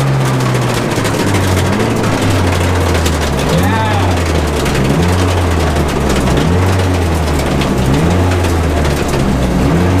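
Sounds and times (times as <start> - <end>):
car engine droning: 0.0 - 10.0.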